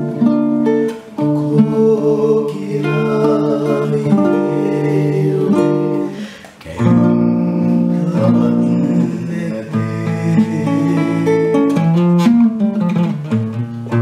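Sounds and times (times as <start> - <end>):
classical guitar chords: 0.0 - 14.0.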